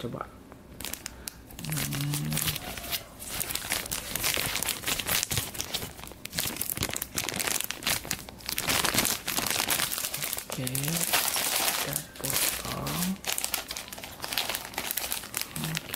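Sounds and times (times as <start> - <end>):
plastic bags crinkling: 0.7 - 15.9.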